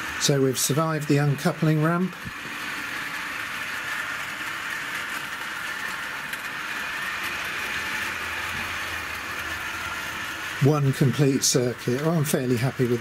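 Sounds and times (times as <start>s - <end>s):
model train motor whirring: 0.0s - 13.0s
wheels rolling on rails: 0.0s - 13.0s.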